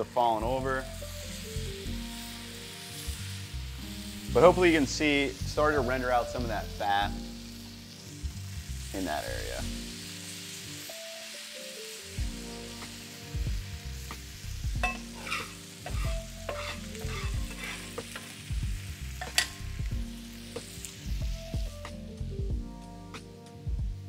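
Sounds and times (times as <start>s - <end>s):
steaks sizzling on a griddle: 0.0s - 24.0s.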